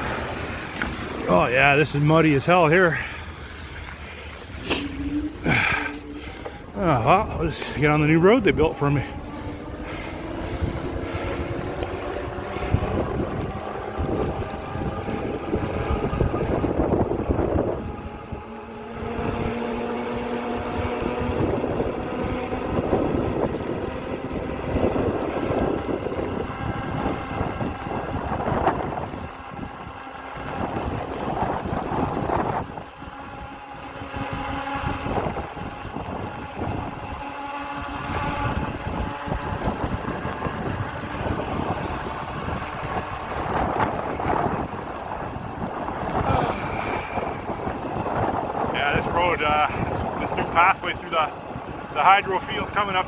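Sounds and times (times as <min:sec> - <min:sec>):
faint motor whine: 0:00.0 - 0:53.0
wind buffeting microphone: 0:00.0 - 0:53.0.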